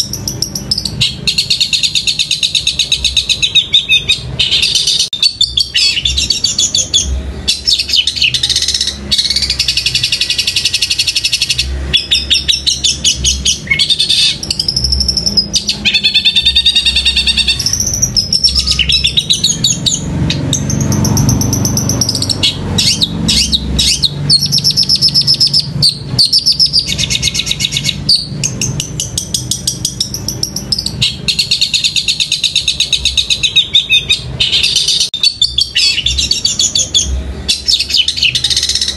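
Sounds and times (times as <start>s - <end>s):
shrike singing rapid chattering notes: 0.0s - 38.9s.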